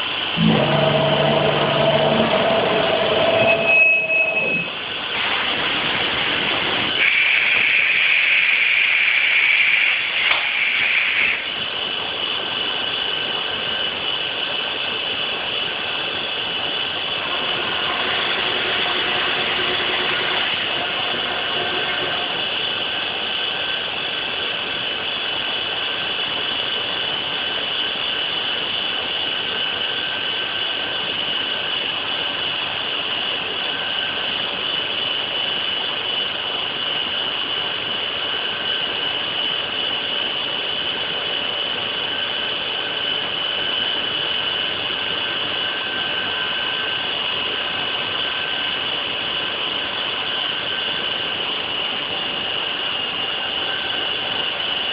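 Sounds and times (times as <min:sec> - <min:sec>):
machine spindle whining: 0:00.0 - 0:12.0, 0:15.5 - 0:54.9.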